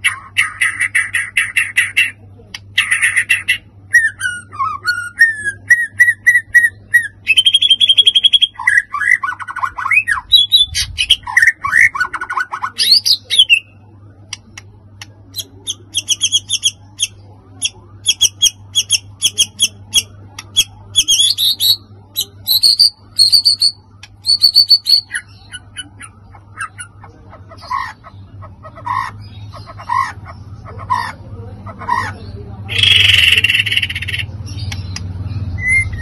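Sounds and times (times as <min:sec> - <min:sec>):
bird singing varied song: 0:00.0 - 0:36.0.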